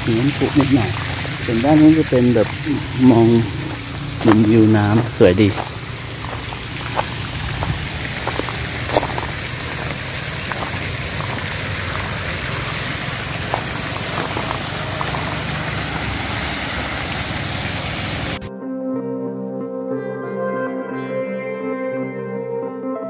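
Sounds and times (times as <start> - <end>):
paddlewheel aerator churning water: 0.0 - 18.5.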